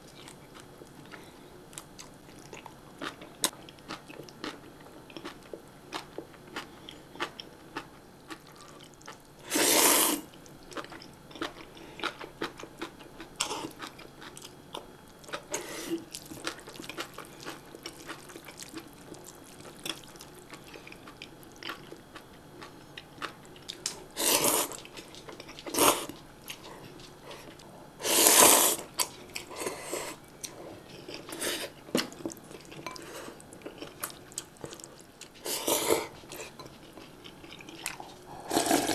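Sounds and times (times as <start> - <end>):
mouth chewing and crunching: 0.0 - 9.4, 10.2 - 38.9.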